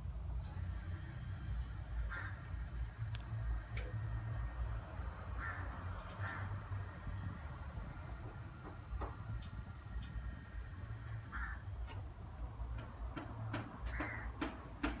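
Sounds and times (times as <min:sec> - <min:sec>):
engine idling rumble: 0:00.0 - 0:15.0.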